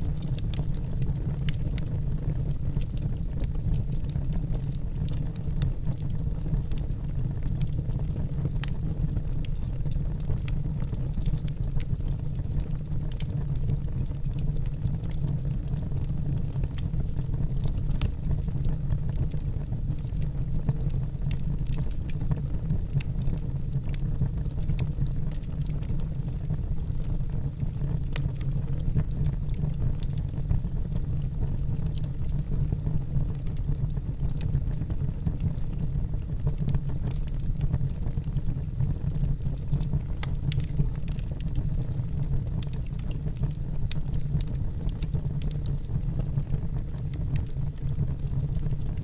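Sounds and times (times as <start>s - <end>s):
fire crackles and pops: 0.0s - 49.0s
low rumble of flames: 0.0s - 49.0s.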